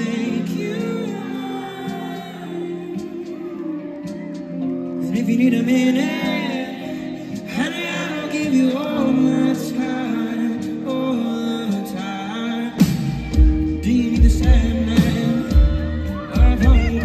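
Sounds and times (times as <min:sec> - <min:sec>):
electric guitars: 0:00.0 - 0:17.0
live rock band playing: 0:00.0 - 0:17.0
man singing lead: 0:00.0 - 0:17.0.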